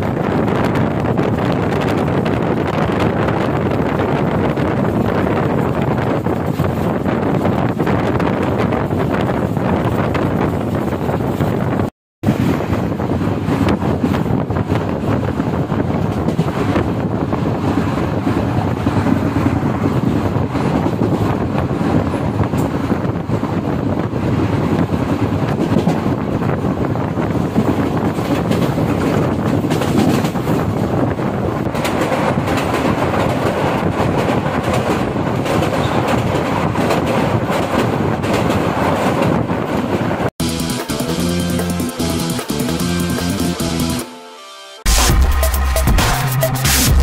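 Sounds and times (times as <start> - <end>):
train coach rumbling on rails: 0.0 - 44.0.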